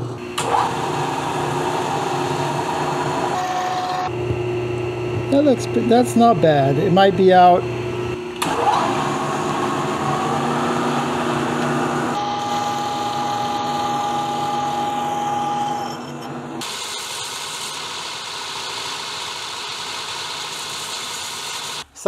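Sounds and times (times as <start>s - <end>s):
milling machine motor whine: 0.0s - 21.8s.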